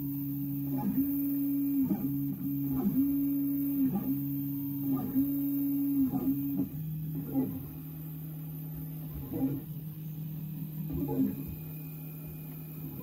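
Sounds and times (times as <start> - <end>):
printer stepper motors humming: 0.0 - 13.0.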